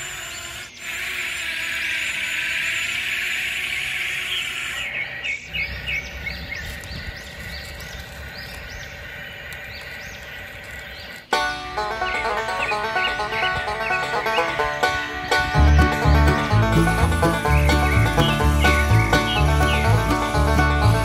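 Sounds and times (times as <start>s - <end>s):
small birds chirping: 0.0s - 21.0s
steady outdoor hiss: 0.0s - 21.0s.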